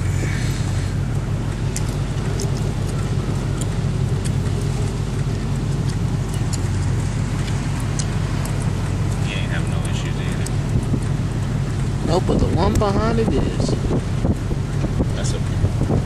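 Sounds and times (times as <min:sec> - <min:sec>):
car engine cruising: 0:00.0 - 0:16.0
road noise inside car: 0:00.0 - 0:16.0.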